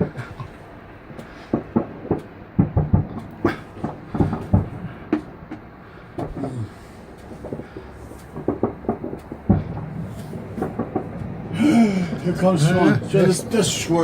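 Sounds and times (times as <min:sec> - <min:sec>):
fireworks bangs and thuds: 0:01.1 - 0:06.8, 0:07.4 - 0:14.0.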